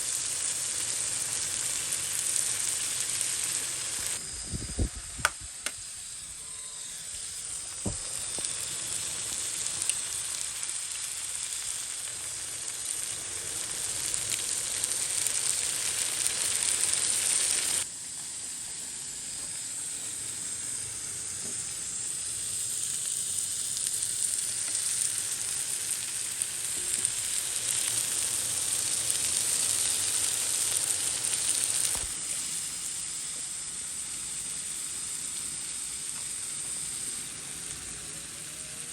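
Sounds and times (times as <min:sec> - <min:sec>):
eggs sizzling in oil: 0:00.0 - 0:38.9.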